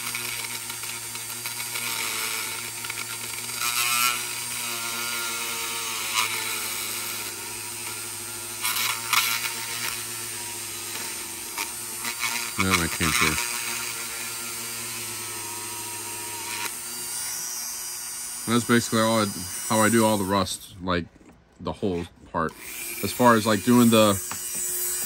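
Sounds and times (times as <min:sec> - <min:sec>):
rotary tool grinding plastic: 0:00.0 - 0:25.0.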